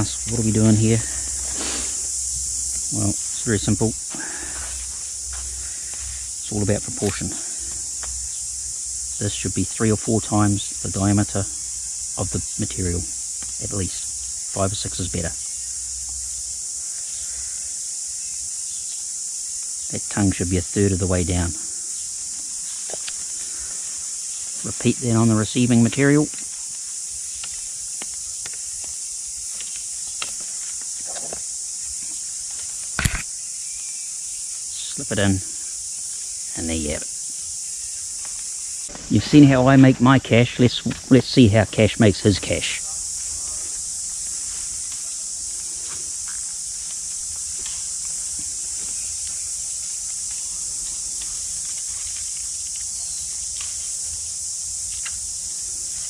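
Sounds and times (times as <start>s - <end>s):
insects chirring: 0.0s - 56.0s
steady high-pitched hiss: 0.0s - 56.0s.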